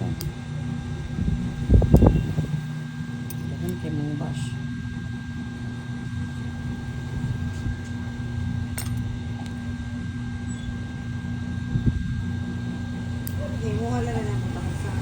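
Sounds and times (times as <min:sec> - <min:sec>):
electric motor hum with whine: 0:00.0 - 0:15.0.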